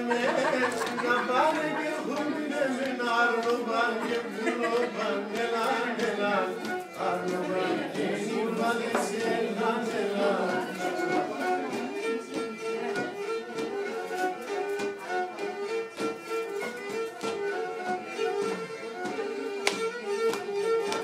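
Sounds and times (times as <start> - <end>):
bowed string instrument melody: 0.0 - 21.0
sharp rhythmic strokes: 0.4 - 21.0.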